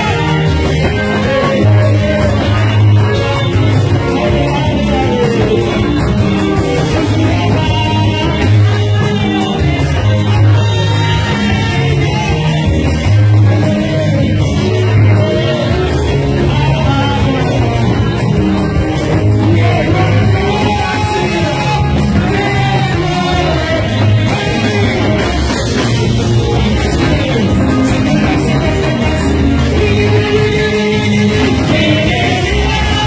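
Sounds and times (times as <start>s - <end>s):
voices singing together: 0.0s - 33.0s
worship band with heavy bass: 0.0s - 33.0s.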